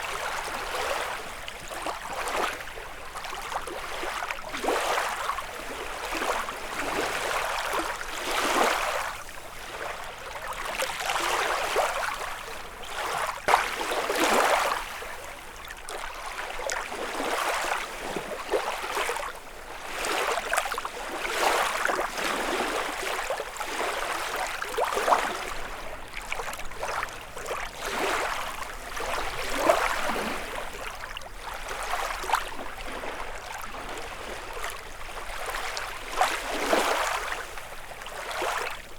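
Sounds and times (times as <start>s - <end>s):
waves lapping on shore: 0.0s - 38.9s.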